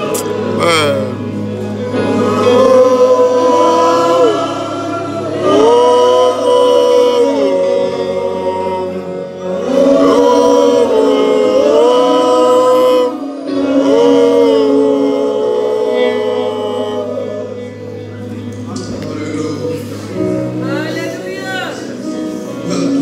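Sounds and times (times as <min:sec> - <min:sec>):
voices singing gospel song: 0:00.0 - 0:23.0.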